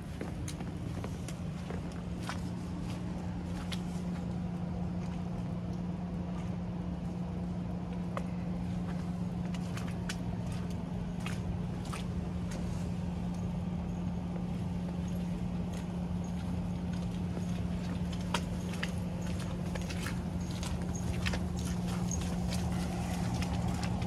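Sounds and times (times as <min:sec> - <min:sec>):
footsteps clicking and tapping: 0:00.0 - 0:05.9, 0:07.9 - 0:24.0
steady low hum: 0:00.0 - 0:24.0.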